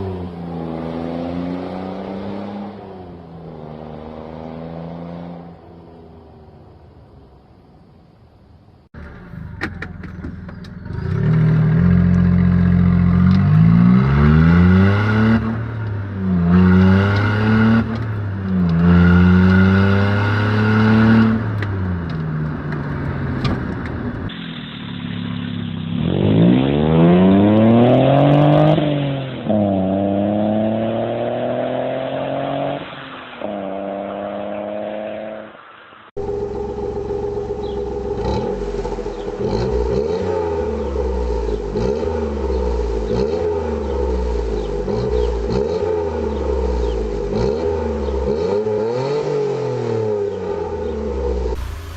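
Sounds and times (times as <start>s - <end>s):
car engine revving: 0.0s - 6.2s, 10.1s - 51.9s.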